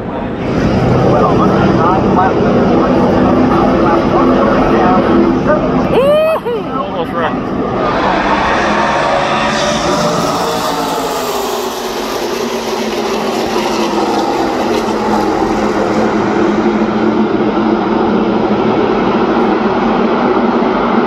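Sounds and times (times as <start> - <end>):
racing truck engines droning: 0.0 - 21.0.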